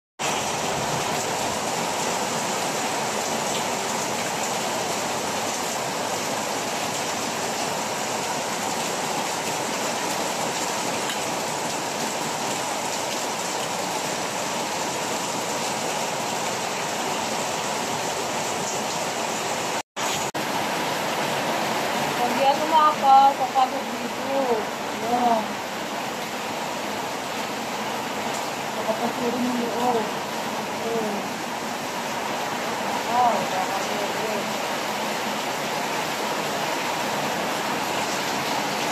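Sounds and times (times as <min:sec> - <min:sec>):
heavy rain splashing into water: 0:00.2 - 0:38.9.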